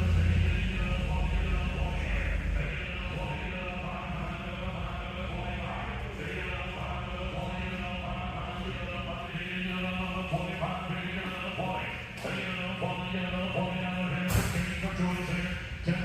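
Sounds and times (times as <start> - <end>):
auctioneer chanting over loudspeakers: 0.0 - 16.0.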